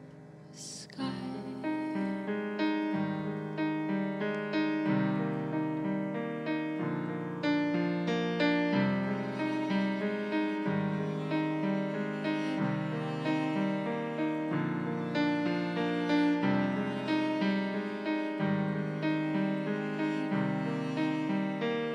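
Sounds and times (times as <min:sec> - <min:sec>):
keyboard playing piano sound: 0:02.5 - 0:21.9.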